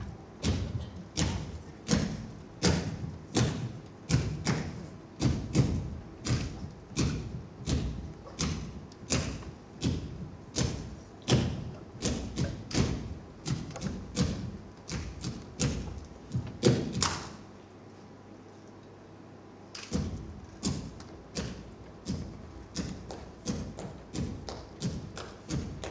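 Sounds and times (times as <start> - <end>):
bare feet stamping on stage floor: 0.0 - 17.4, 19.9 - 25.9.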